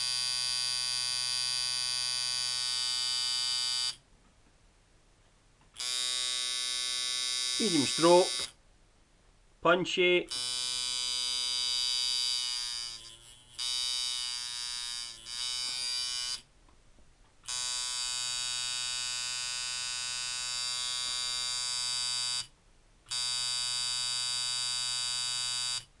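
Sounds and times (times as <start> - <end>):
tattoo machine buzzing: 0.0 - 4.0, 5.8 - 8.6, 10.3 - 16.5, 17.4 - 22.5, 23.1 - 25.9.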